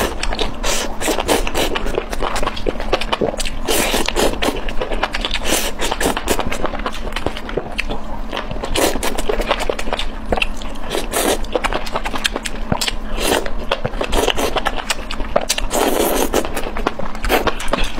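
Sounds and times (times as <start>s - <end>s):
chewing and wet mouth sounds: 0.0s - 17.9s.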